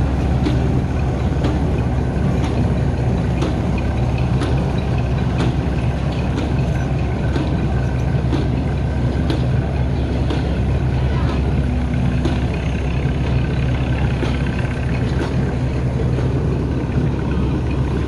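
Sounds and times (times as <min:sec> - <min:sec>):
old engine idling: 0:00.0 - 0:18.0.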